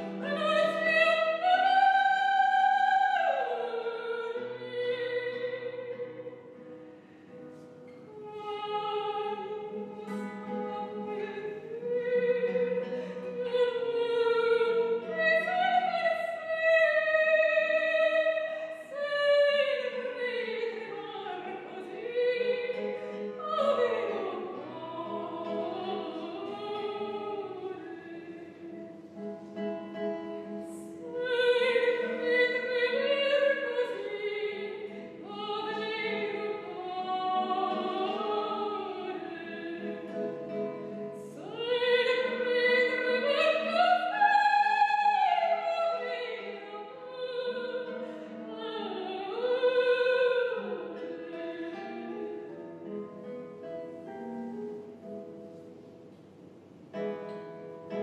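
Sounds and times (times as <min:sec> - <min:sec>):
woman singing operatically: 0:00.0 - 0:06.3, 0:08.1 - 0:29.2, 0:30.5 - 0:53.0
classical guitar: 0:00.0 - 0:58.0.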